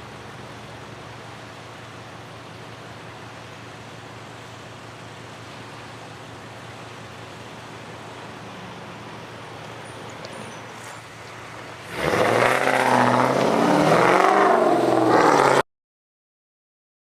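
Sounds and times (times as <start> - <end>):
low railroad rumble: 0.0 - 15.1.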